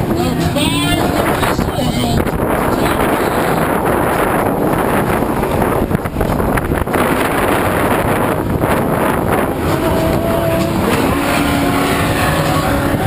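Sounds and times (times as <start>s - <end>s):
race truck engines droning: 0.0s - 13.0s
wind buffeting microphone: 0.0s - 13.0s.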